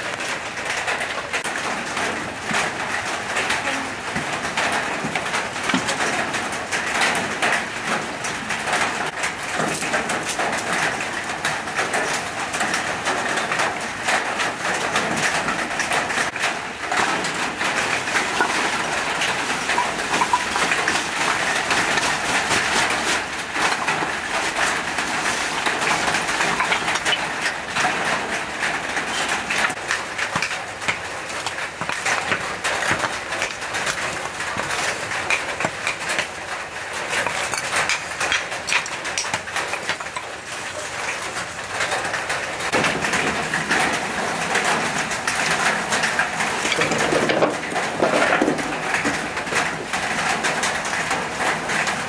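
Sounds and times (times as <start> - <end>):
charcoal lumps clattering: 0.0 - 52.0
wood fire crackling: 0.0 - 52.0.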